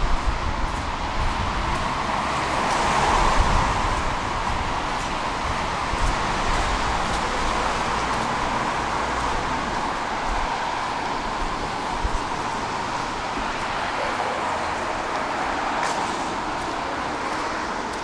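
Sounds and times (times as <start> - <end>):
distant traffic on wet roads: 0.0 - 18.0.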